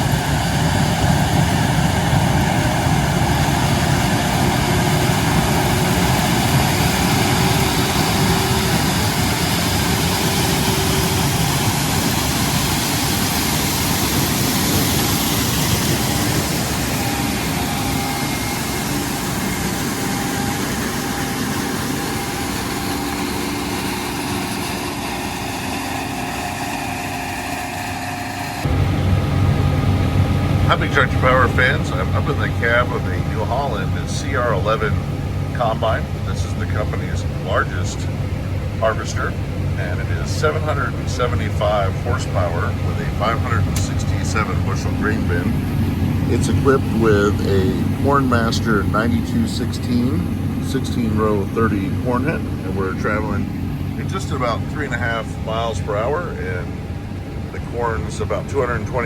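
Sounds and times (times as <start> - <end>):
combine harvester engine and machinery: 0.0 - 59.0.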